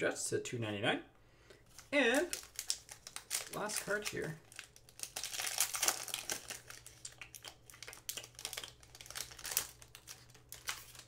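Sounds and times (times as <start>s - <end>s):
foil wrapper crinkling and tearing: 1.7s - 11.0s.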